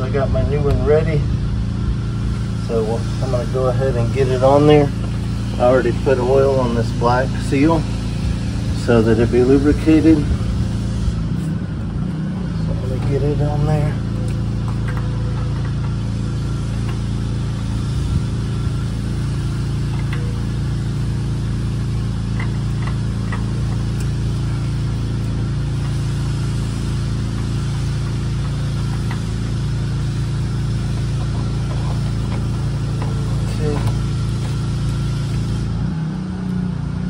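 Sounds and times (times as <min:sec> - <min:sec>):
motor humming: 0:00.0 - 0:37.0.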